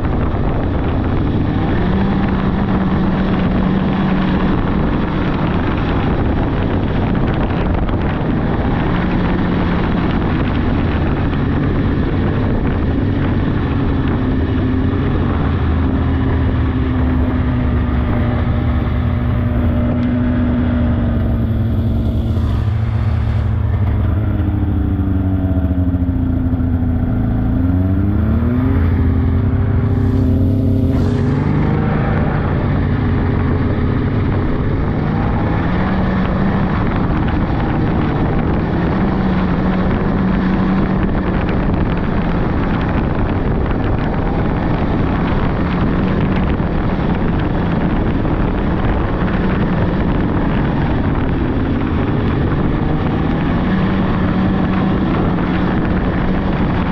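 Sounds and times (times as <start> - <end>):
rushing wind: 0.0 - 56.9
snowmobile engine running: 0.0 - 56.9.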